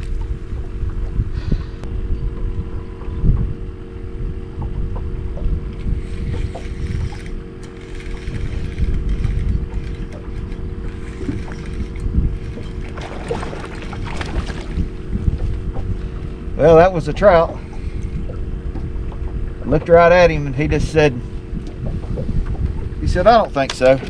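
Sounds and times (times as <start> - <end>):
steady hum: 0.0 - 24.0
wind buffeting microphone: 0.0 - 24.0.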